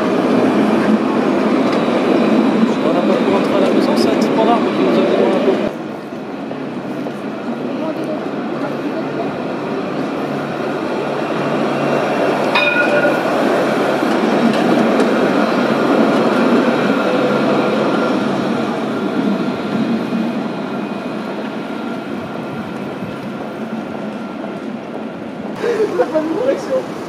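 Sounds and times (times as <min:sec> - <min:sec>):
tram wheels on rails: 0:00.0 - 0:27.0.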